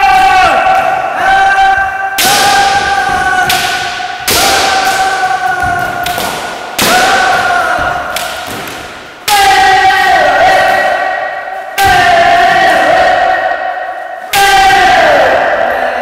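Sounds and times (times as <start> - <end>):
long drawn-out shouts: 0.0 - 8.4, 9.2 - 16.0.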